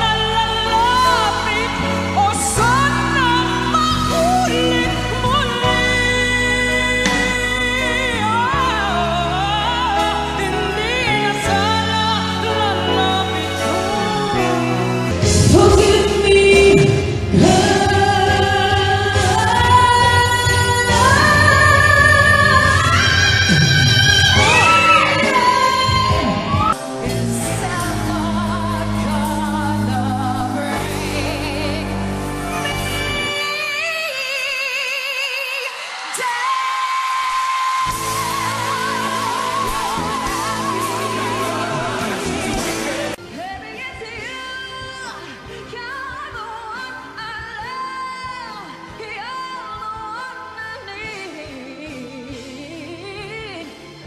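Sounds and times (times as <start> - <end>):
backing band: 0.0 - 34.8, 37.8 - 54.0
woman singing with vibrato: 0.0 - 53.9.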